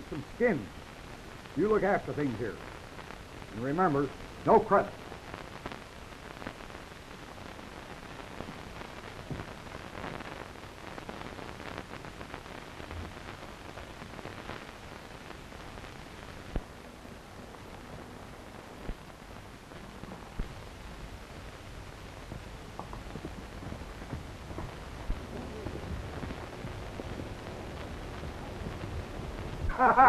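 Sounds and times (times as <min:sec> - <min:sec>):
film soundtrack hiss and crackle: 0:00.0 - 0:30.0.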